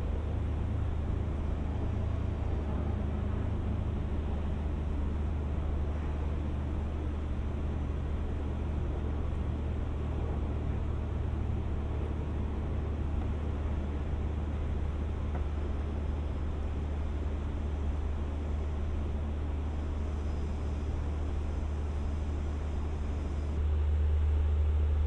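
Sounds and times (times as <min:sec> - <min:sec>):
train diesel engines idling: 0:00.0 - 0:24.4.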